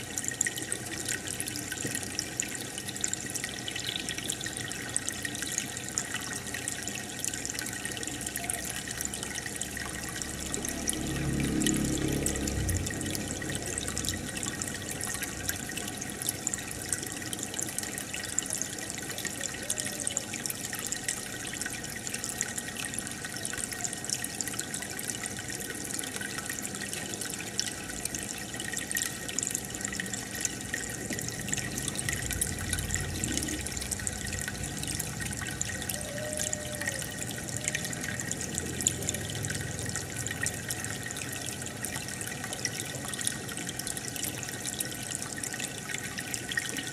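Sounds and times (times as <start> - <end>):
aquarium air bubbler fizzing: 0.0 - 19.0, 24.0 - 46.9
trickling water: 0.0 - 46.9.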